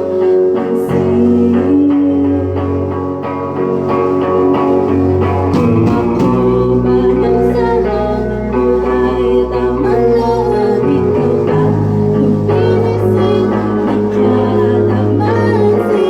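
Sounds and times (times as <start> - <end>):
bass guitar: 0.0 - 16.0
strummed guitars: 0.0 - 16.0
live band music: 2.9 - 16.0.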